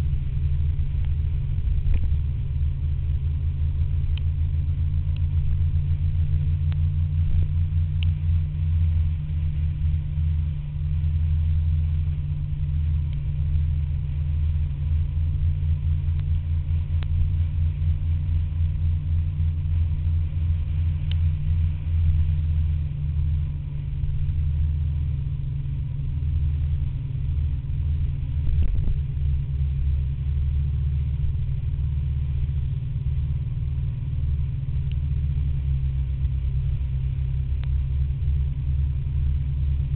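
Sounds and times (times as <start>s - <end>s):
scooter engine drone: 0.0s - 39.9s.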